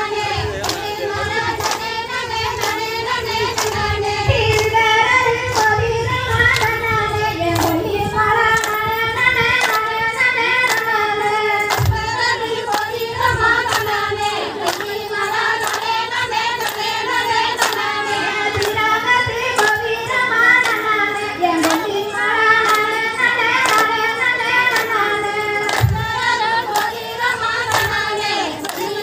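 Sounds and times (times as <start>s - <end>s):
women singing folk song: 0.0s - 29.0s
hand claps: 0.1s - 4.9s, 5.5s - 6.9s, 7.5s - 10.0s, 10.6s - 29.0s.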